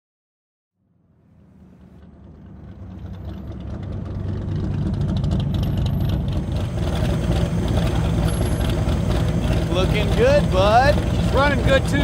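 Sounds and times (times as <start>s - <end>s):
v eight engine rumbling: 1.0s - 12.0s.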